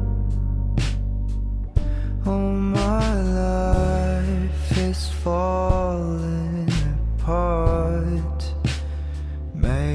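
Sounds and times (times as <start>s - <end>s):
slow song with deep bass: 0.0s - 9.9s.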